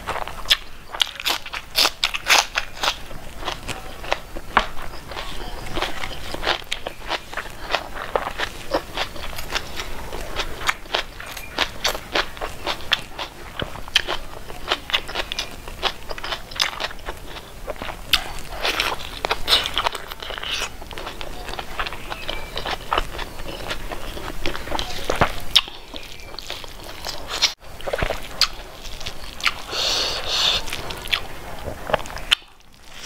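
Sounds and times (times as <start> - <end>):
wet chewing and mouth clicks: 0.0 - 33.0.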